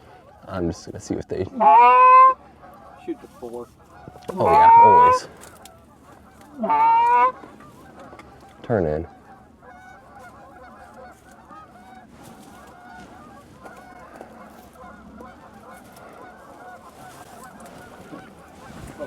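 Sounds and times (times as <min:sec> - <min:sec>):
geese honking and clucking: 0:00.0 - 0:19.0.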